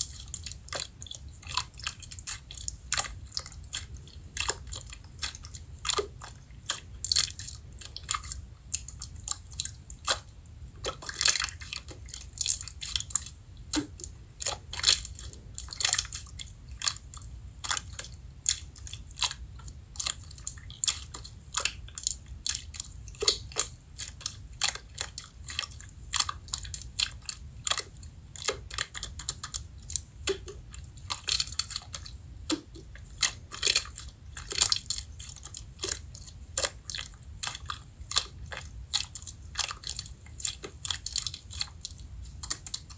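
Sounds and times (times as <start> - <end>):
slime squishing with crackling clicks: 0.0 - 42.9.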